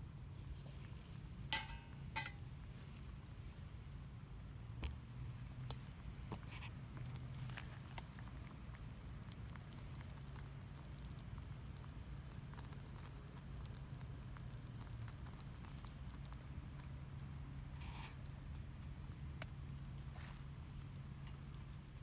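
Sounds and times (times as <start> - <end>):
low steady hum: 0.0 - 22.0
wood fire crackling: 0.0 - 22.0.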